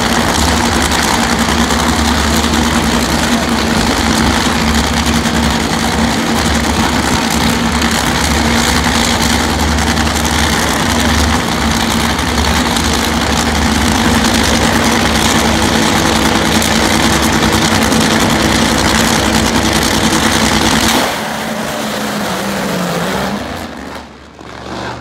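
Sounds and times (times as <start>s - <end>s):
drag racing engines running: 0.0s - 25.0s.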